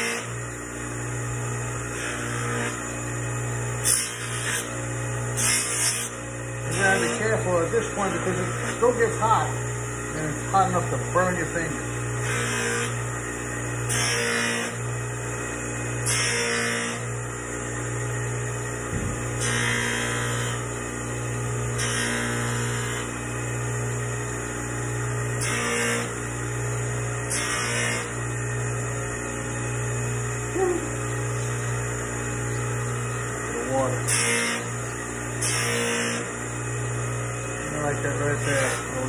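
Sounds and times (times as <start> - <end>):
polishing grinder motor hum: 0.0 - 39.0.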